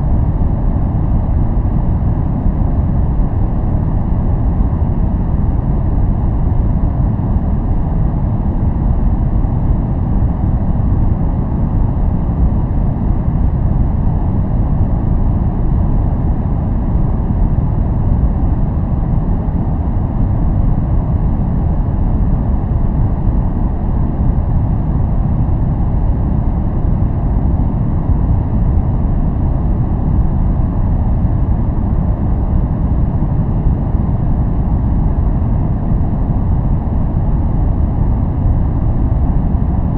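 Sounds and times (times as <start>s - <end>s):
deep rumbling white noise: 0.0s - 39.9s.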